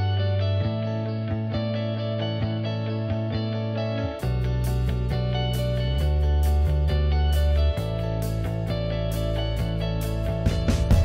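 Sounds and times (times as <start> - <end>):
guitar music over beat: 0.0 - 11.0.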